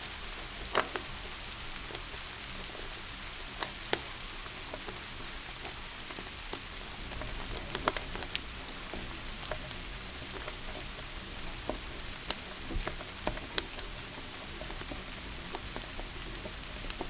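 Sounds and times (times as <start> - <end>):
steady rain hissing: 0.0 - 17.0
wood fire crackling and popping: 0.0 - 17.0.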